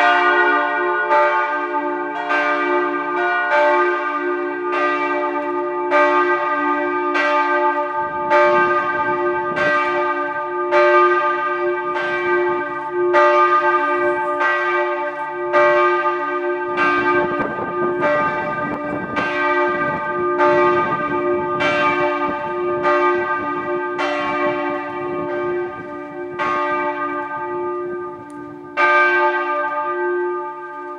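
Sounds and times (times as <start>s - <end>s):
higher church bell striking: 0.0s - 30.9s.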